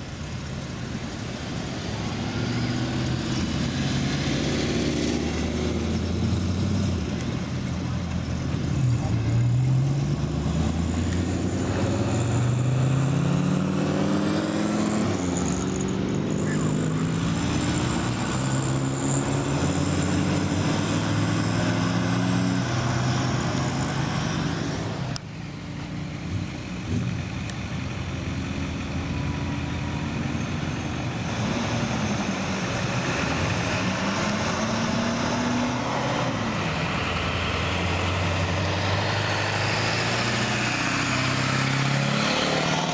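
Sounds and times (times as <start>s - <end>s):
engines idling: 0.0s - 41.8s
car engines accelerating: 0.0s - 42.9s.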